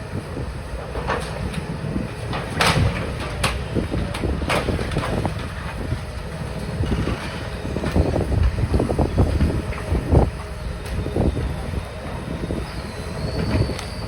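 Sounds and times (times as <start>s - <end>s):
excavator engine under load: 0.0s - 14.0s.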